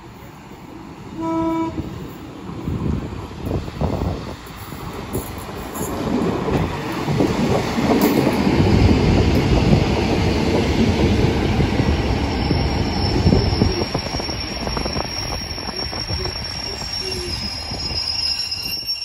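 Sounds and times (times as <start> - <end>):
diesel train engines: 0.0 - 19.0
train wheels rumbling on rails: 0.0 - 19.0.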